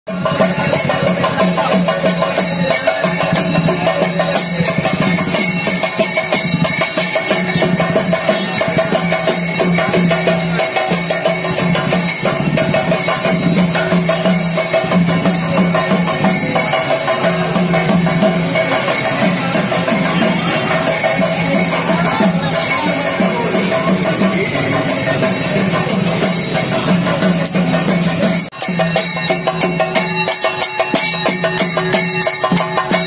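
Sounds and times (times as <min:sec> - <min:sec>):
drums: 0:00.1 - 0:33.0
jingling metal percussion: 0:00.1 - 0:33.0.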